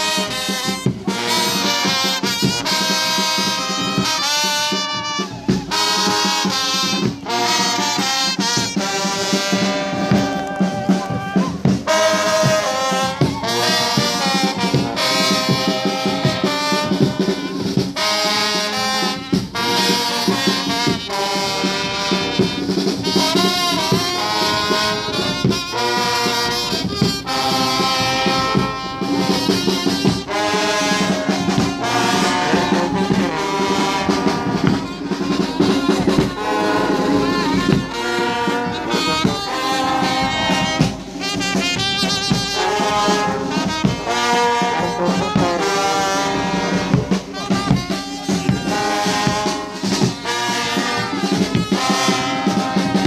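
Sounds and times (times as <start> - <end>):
brass band playing: 0.0 - 53.0.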